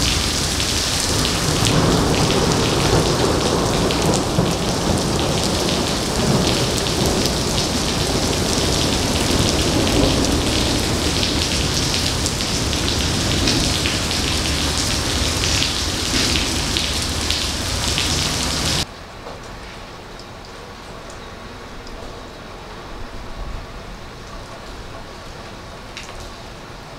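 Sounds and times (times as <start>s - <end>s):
heavy rain on pavement: 0.0s - 19.6s, 20.3s - 26.9s.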